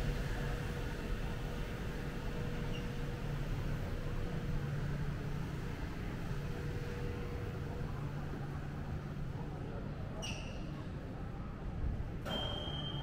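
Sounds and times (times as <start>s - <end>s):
station ventilation: 0.0s - 13.0s
train hum and hiss: 0.0s - 13.0s.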